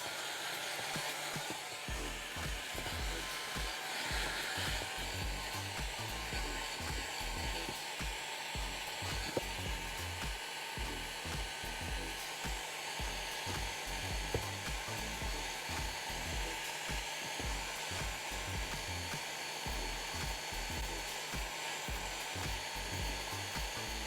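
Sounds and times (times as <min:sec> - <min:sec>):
hot air gun blowing: 0:00.0 - 0:24.0.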